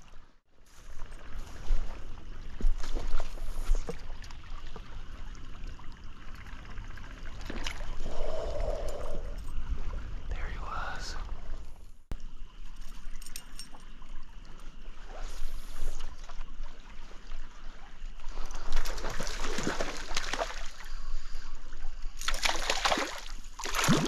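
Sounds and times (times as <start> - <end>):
stream water running and splashing: 0.0 - 11.6, 12.2 - 24.0.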